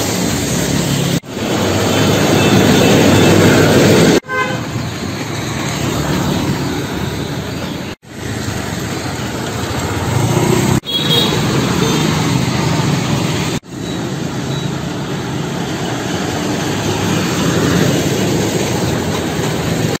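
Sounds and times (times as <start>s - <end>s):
motor vehicles passing: 0.0s - 20.0s.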